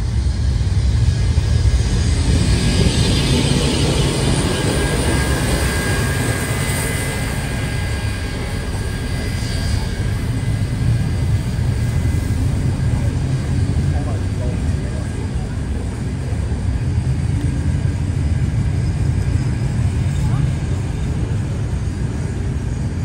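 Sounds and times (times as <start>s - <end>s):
train wheels rumbling on rail: 0.0s - 22.8s.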